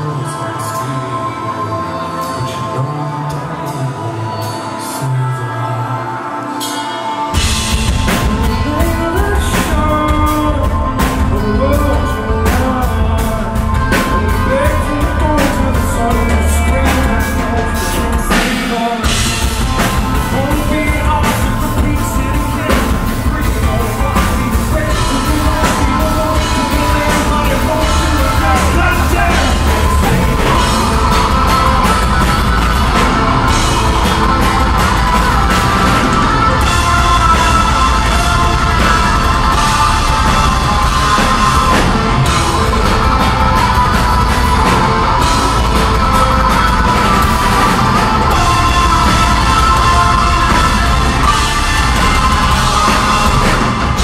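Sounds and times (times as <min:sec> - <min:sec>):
live metal band playing: 0:00.0 - 0:54.0
man singing: 0:00.0 - 0:54.0.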